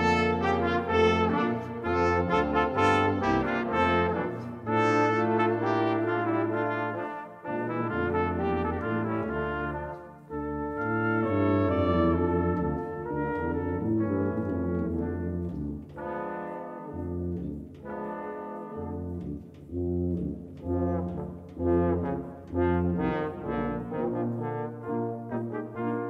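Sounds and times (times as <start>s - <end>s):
brass quintet playing: 0.0s - 26.0s
tuba low notes: 0.0s - 26.0s.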